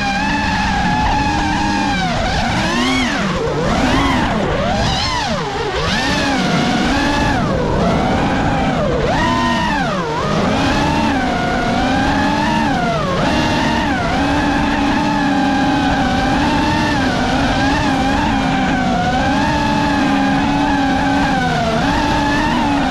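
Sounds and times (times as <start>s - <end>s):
drone motors whining: 0.0s - 22.9s.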